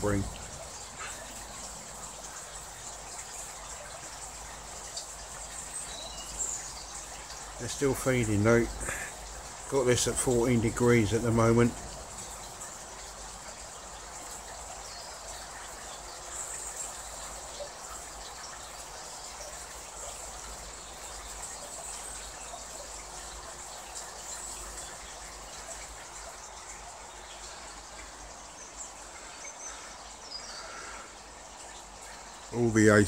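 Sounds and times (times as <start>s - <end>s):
pond water trickling and bubbling: 0.0s - 33.0s.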